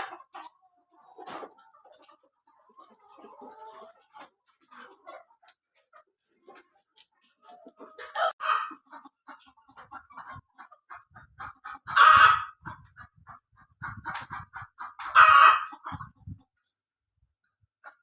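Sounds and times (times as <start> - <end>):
chickens clucking: 0.0 - 16.8, 17.4 - 18.0.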